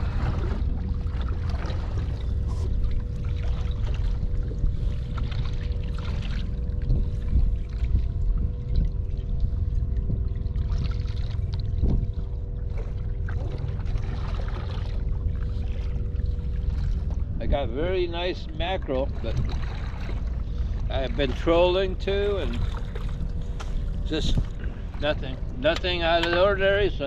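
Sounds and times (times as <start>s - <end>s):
faint steady hum: 0.0s - 27.0s
water splashing against boat hull: 0.0s - 27.0s
wind rumbling on microphone: 0.0s - 27.0s.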